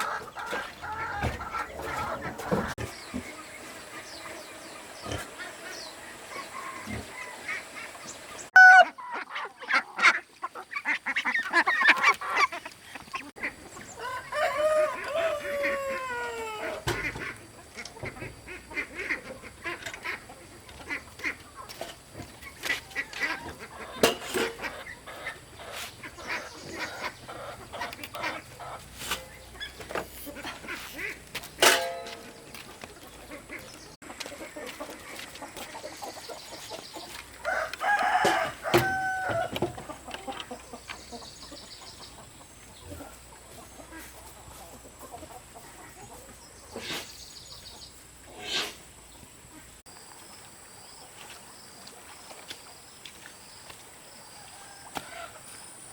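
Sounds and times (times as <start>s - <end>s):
farm poultry calling: 0.0s - 47.1s.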